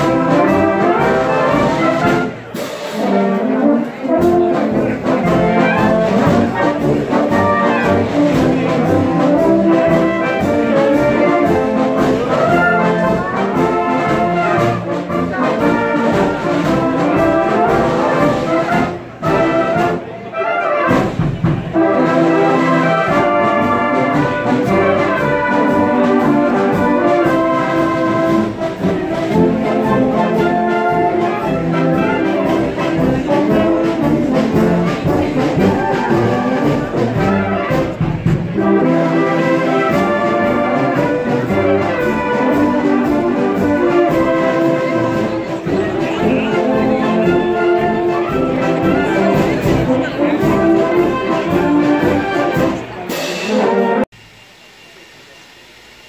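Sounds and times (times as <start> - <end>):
trumpets and trombones playing: 0.0 - 54.1.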